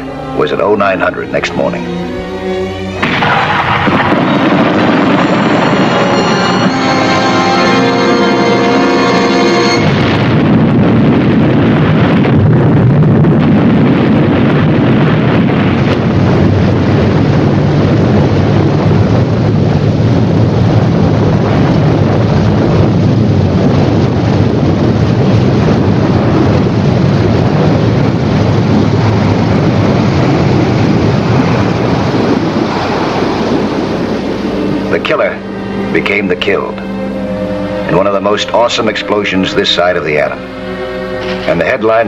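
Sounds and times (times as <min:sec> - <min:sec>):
explosion low rumble: 0:03.0 - 0:08.4, 0:09.7 - 0:42.0.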